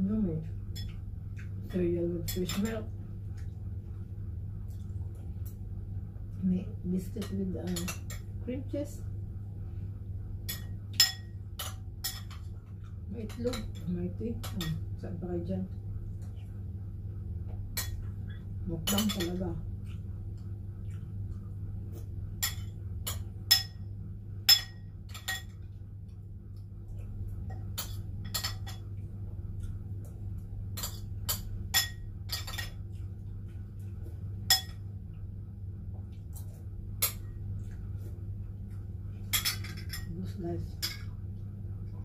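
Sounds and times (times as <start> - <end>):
low hum: 0.0 - 42.0.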